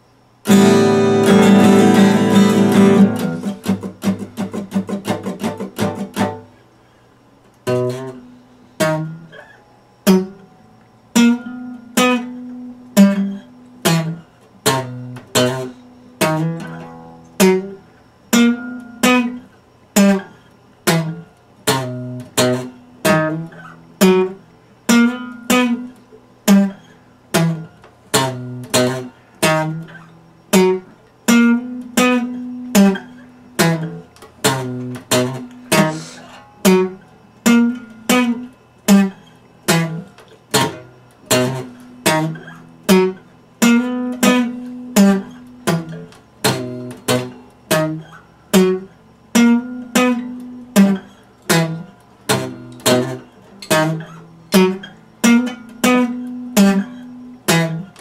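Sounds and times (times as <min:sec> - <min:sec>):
acoustic guitar plucked chords: 0:00.4 - 0:06.6, 0:07.6 - 0:58.0.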